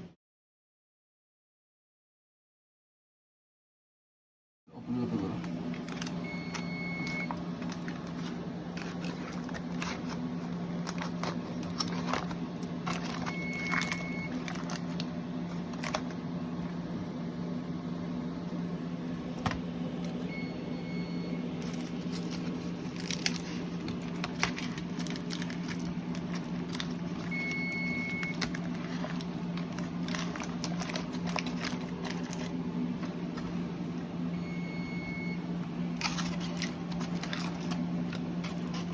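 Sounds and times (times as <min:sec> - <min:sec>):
low machine hum: 0:04.8 - 0:38.9.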